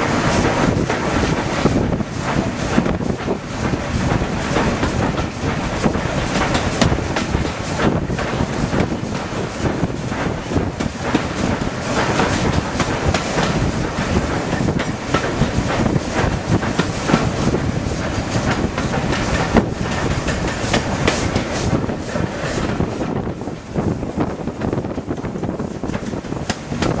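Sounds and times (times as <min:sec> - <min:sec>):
train running rumble: 0:00.0 - 0:27.0
train wheels clattering over rail joints: 0:00.0 - 0:27.0.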